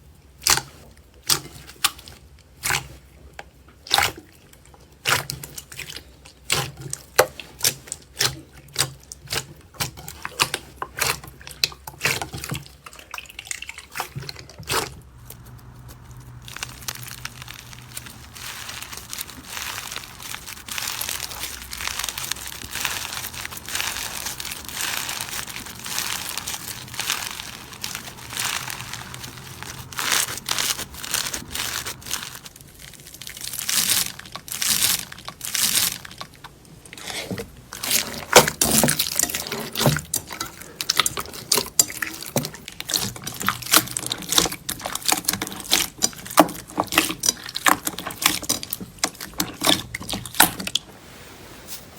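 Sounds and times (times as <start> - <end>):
slime crackling and popping: 3.8 - 50.8.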